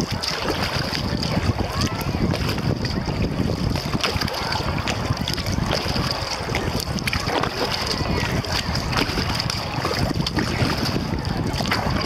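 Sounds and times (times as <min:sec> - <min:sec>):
paddle strokes splashing: 0:00.0 - 0:12.0
wind rumble on microphone: 0:00.0 - 0:12.0.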